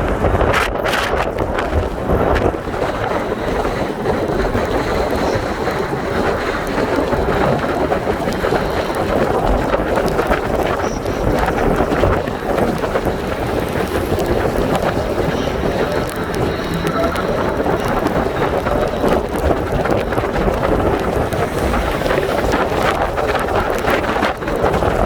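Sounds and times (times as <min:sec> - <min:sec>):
heavy rain pouring: 0:00.0 - 0:25.0
wind buffeting microphone: 0:00.0 - 0:25.0.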